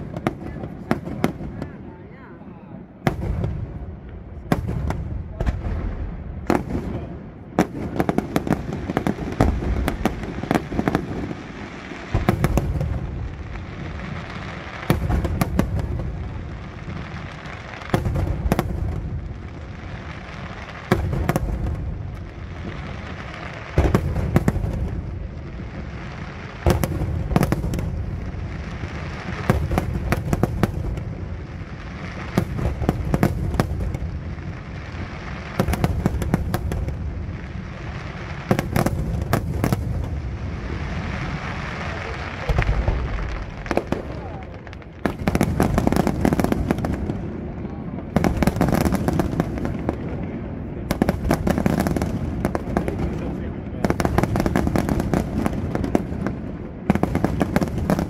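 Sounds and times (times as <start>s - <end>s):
firework crackling: 0.0s - 58.0s.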